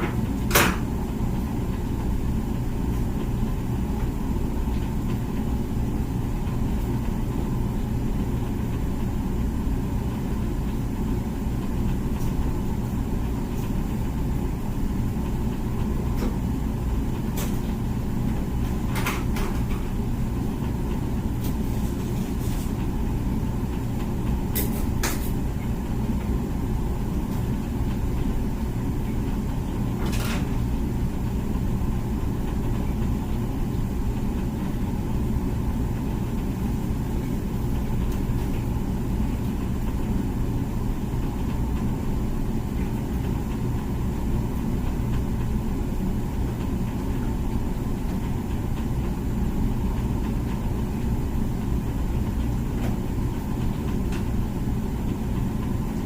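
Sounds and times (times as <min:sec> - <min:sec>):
dishwasher pump rumble and hum: 0:00.0 - 0:56.0.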